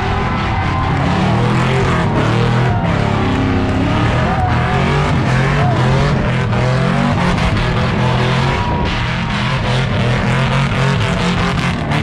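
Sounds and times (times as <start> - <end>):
car engine revving high: 0.0 - 12.0
music with bass line: 0.0 - 12.0.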